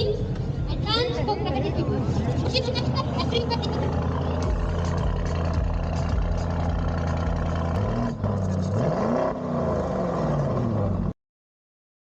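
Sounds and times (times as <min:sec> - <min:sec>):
vehicle engine idling and revving: 0:00.0 - 0:11.2.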